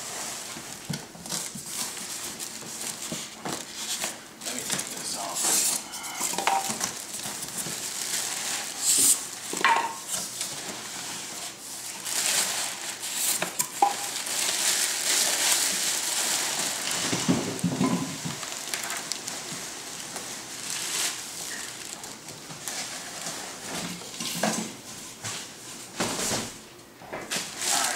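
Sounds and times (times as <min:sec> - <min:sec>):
plastic wrapping crinkling: 0:00.0 - 0:26.6, 0:27.3 - 0:27.9.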